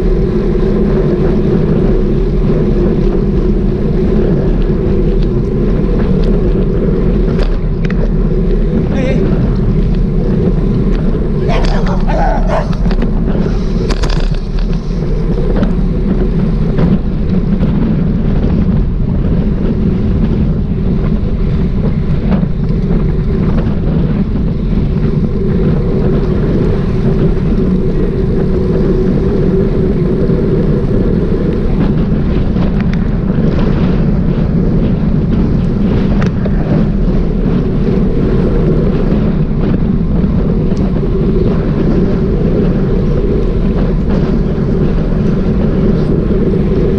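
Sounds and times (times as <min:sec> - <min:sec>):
road noise: 0:00.0 - 0:46.9
wind rumble on microphone: 0:00.0 - 0:46.9.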